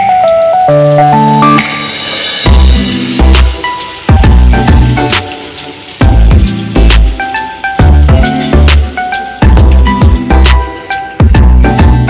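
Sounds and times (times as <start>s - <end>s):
music with heavy bass beat: 1.0s - 12.0s
sharp percussion hits: 1.4s - 12.0s.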